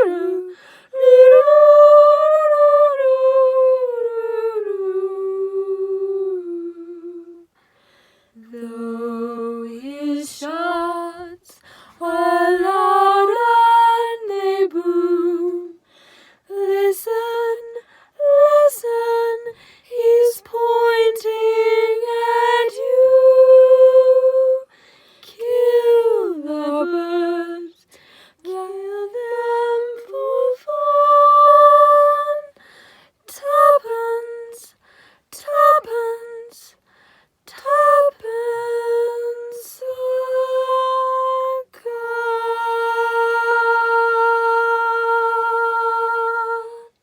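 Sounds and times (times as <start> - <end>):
woman singing unaccompanied: 0.0 - 7.6, 8.4 - 15.8, 16.4 - 47.0.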